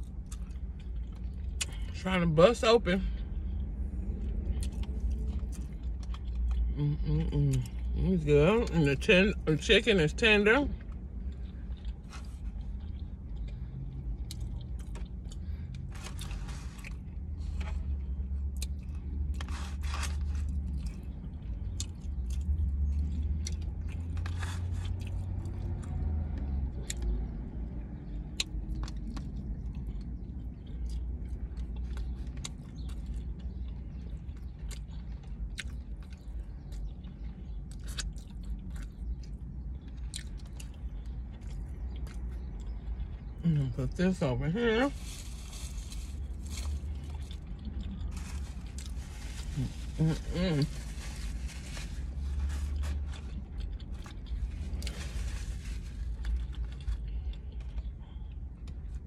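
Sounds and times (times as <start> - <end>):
low steady rumble: 0.0 - 59.0
person chewing and biting food: 3.4 - 7.9, 10.8 - 27.2, 28.0 - 43.4, 45.1 - 51.4, 52.0 - 55.1, 56.0 - 59.0.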